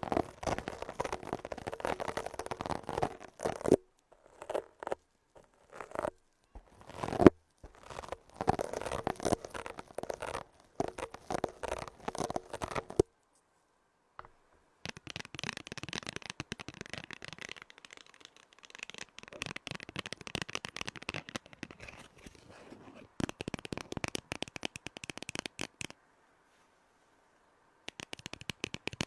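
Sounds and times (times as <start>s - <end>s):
stones clicking and scraping: 0.0s - 13.1s, 14.2s - 25.9s.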